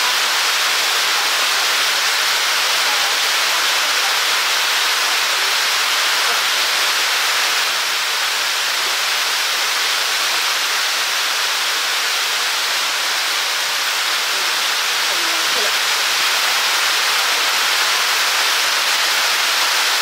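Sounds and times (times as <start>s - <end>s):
steady static hiss: 0.0s - 20.0s.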